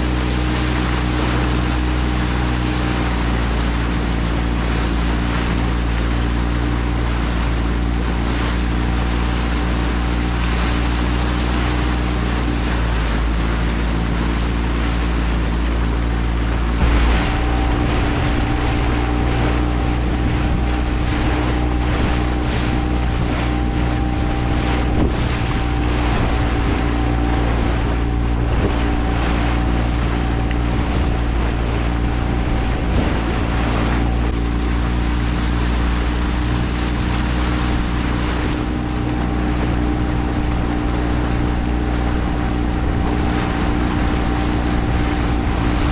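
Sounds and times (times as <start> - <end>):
motorboat engine droning: 0.0 - 45.9
water splashing along hull: 0.0 - 45.9
wind buffeting microphone: 0.0 - 45.9.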